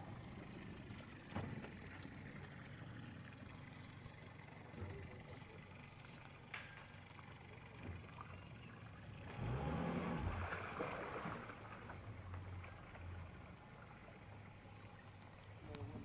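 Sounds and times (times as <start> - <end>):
outboard motor humming: 0.0 - 16.0
water rushing along hull: 0.0 - 16.0.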